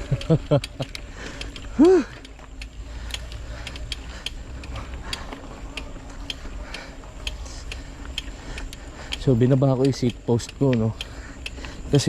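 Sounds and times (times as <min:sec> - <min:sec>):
bike clicking and ticking: 0:00.0 - 0:12.0.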